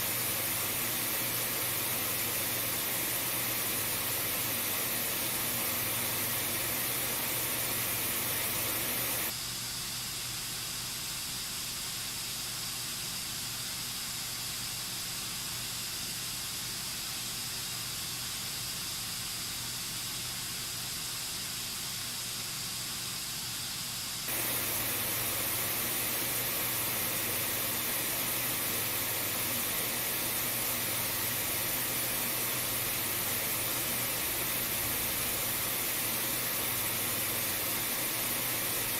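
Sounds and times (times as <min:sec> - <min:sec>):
white noise hiss from speakers: 0:00.0 - 0:38.9.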